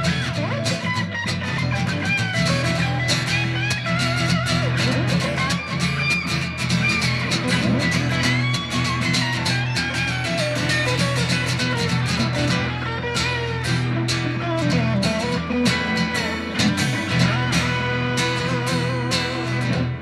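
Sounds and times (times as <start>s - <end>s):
bass: 0.0s - 20.0s
electric guitar lead line: 0.0s - 20.0s.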